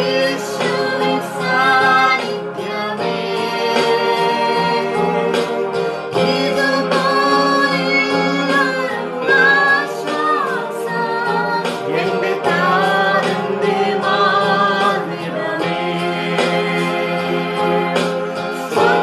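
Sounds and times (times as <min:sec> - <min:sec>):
voices singing devotional song: 0:00.0 - 0:19.0.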